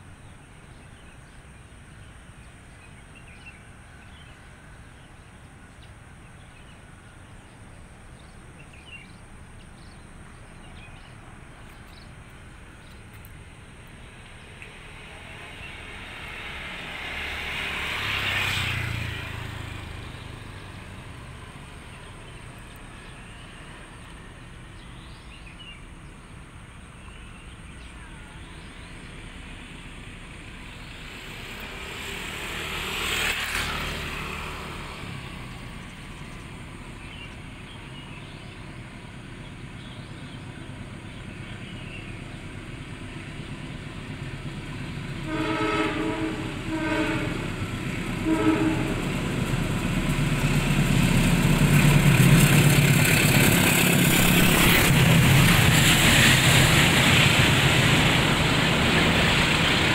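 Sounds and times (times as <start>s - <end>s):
traffic hum: 0.0s - 59.9s
vehicles passing close by: 0.3s - 59.9s.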